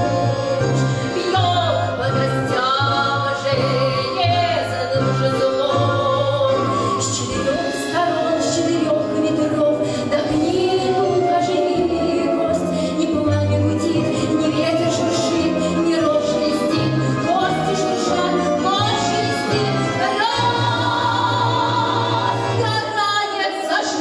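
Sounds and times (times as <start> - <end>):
orchestral accompaniment: 0.0 - 23.0
woman singing: 0.0 - 24.0.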